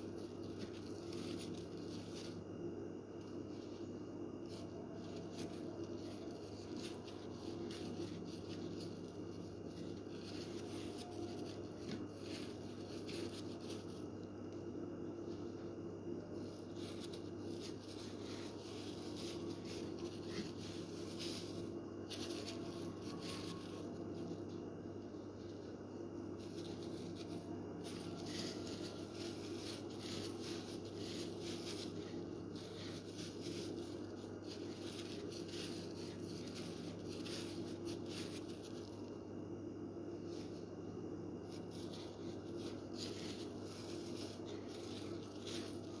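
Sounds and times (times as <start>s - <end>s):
crisp fried food crackling: 0.0s - 2.4s, 4.5s - 14.1s, 16.4s - 24.6s, 25.2s - 39.0s, 41.4s - 46.0s
rustling: 0.0s - 2.4s, 3.2s - 14.3s, 16.4s - 24.6s, 25.2s - 39.1s, 41.4s - 46.0s
steady low hum: 0.0s - 46.0s.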